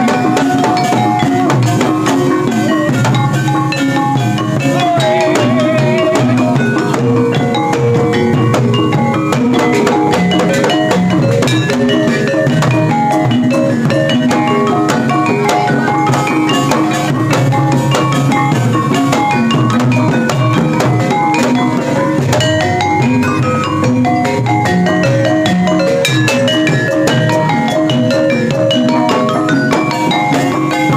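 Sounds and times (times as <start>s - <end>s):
hand drums: 0.0s - 30.9s
metallic mallet percussion notes: 0.0s - 30.9s.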